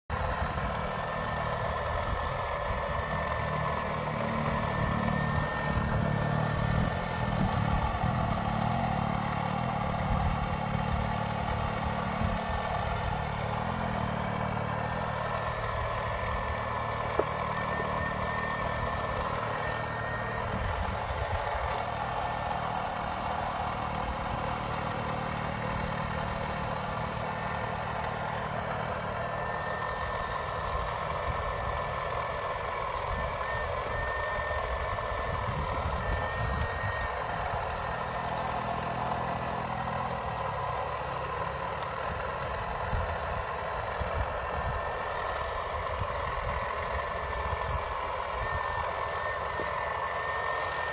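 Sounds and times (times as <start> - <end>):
model excavator engine drone: 0.0 - 50.9
thin motor whine: 0.1 - 50.9.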